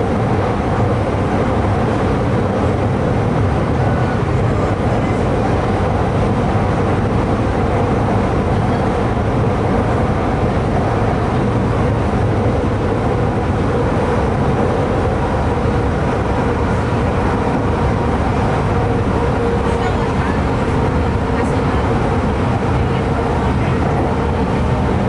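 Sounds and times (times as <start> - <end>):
constant hum: 0.0 - 25.0
train wheels rumbling on rail: 0.0 - 25.0.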